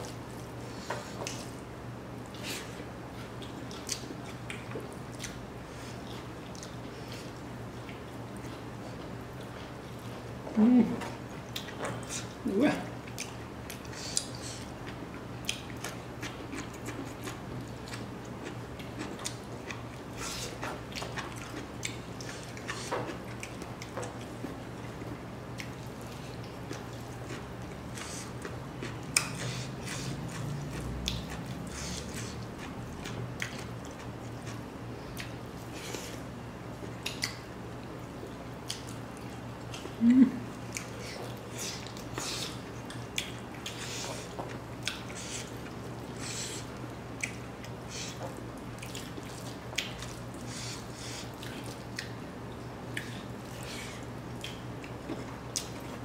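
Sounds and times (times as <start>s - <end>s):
person chewing food: 0.0s - 1.6s, 2.2s - 12.4s, 13.0s - 56.0s
steady low hum: 0.0s - 56.0s.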